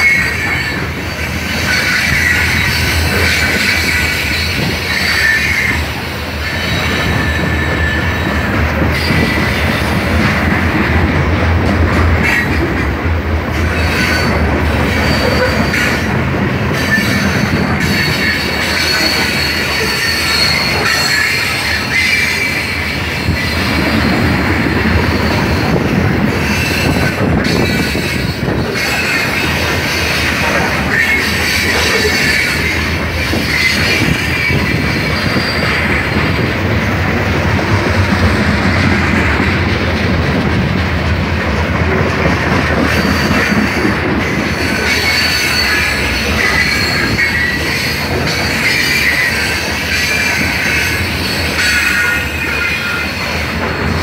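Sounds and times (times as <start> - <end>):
wheels squealing: 0.0 - 9.9, 13.7 - 16.1, 16.7 - 36.5, 42.8 - 54.0
steel wheels rumbling on rail: 0.0 - 54.0.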